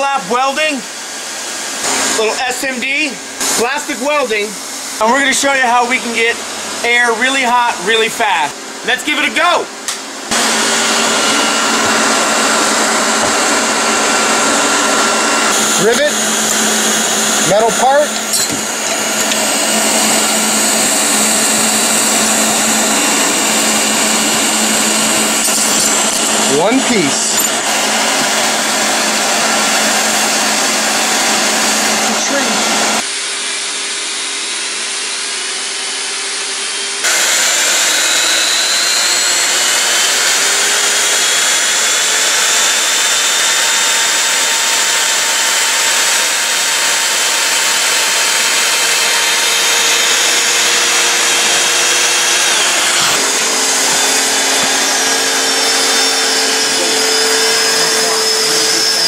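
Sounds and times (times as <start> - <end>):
hot-air blower rushing: 0.0 - 59.0.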